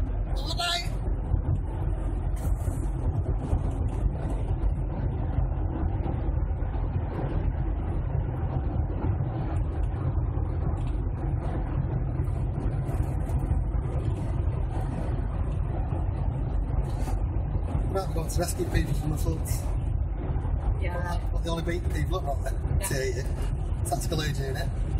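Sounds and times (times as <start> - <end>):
car cabin road and engine drone: 0.0 - 24.9.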